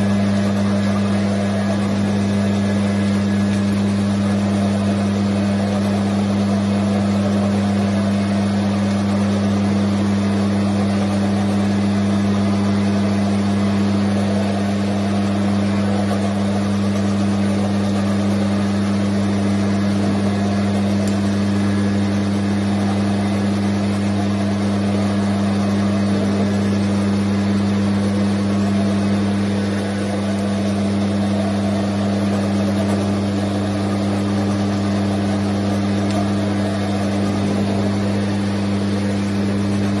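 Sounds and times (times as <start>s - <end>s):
electric polisher motor hum: 0.0s - 40.0s.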